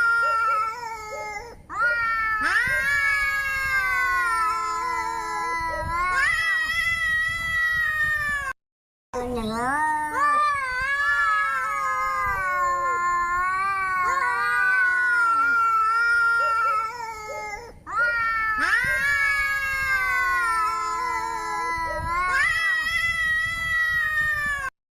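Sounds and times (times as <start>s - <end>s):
angry cat yowling: 0.0s - 8.5s, 10.1s - 24.7s.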